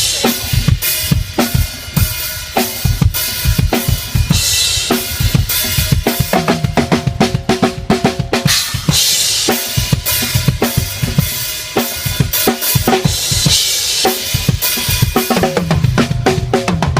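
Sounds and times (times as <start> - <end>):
drum kit groove: 0.0 - 16.9.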